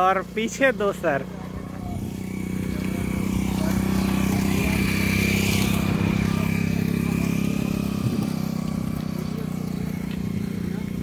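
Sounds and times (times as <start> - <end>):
small motorcycle engine passing: 0.0 - 11.0.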